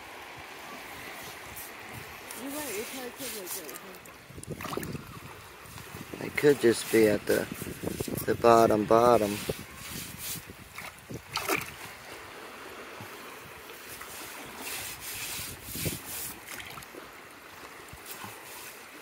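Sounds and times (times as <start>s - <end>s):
water splashes: 0.0s - 19.0s
water washing over sand and shells: 0.0s - 19.0s.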